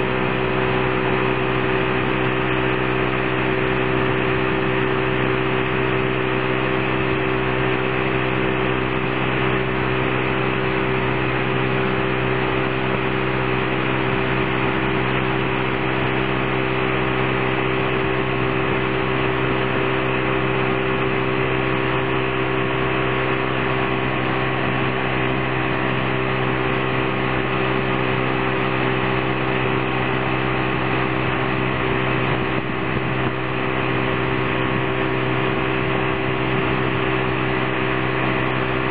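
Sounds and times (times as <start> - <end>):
boat engine humming: 0.0 - 38.9
water rushing from wake: 0.0 - 38.9.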